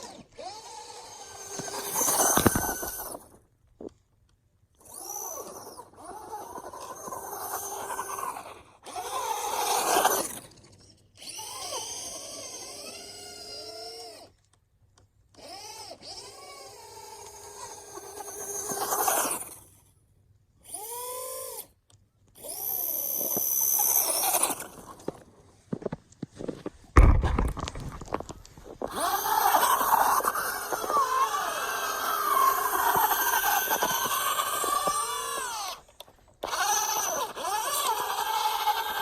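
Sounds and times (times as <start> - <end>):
toy truck electric motor whining: 0.0 - 3.4, 4.7 - 14.6, 15.3 - 25.9, 27.4 - 39.0.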